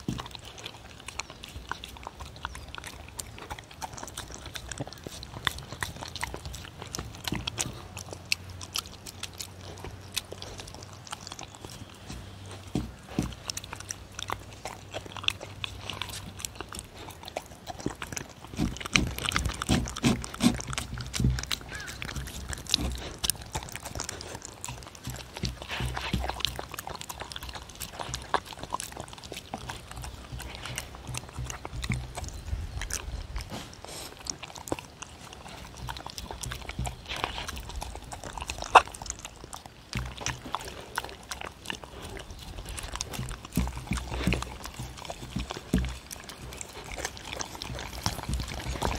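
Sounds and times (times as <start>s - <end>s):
dog chewing and licking: 0.0s - 48.9s.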